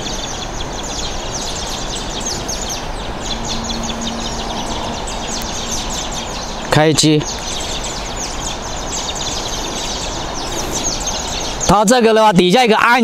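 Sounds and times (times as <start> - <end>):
birds chirping: 0.0 - 13.0
outdoor background noise: 0.0 - 13.0.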